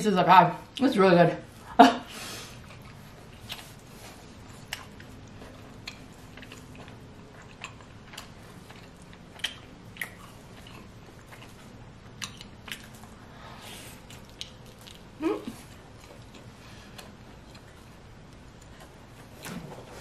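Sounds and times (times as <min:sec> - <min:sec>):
chewing with wet clicks and crunches: 0:02.6 - 0:13.3, 0:13.9 - 0:20.0.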